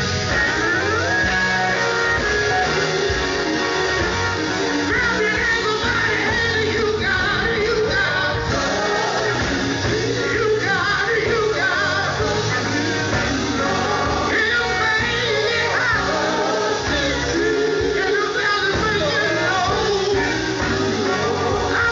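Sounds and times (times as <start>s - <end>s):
gospel quartet singing with band: 0.0s - 21.9s.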